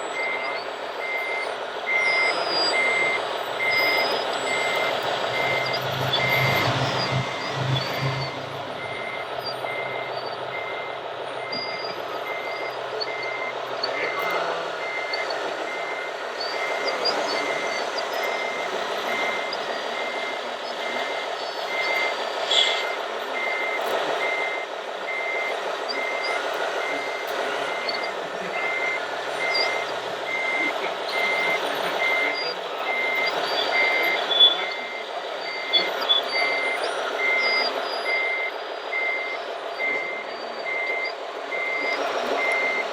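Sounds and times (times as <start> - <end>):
reversing alarm beeping: 0.0 - 42.9.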